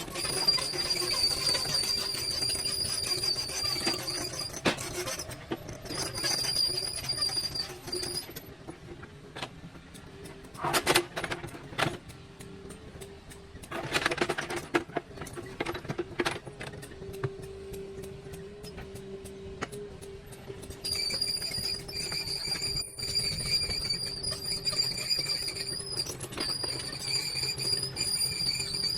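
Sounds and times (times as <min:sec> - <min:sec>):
excavator whining: 0:00.0 - 0:09.0, 0:13.7 - 0:28.9.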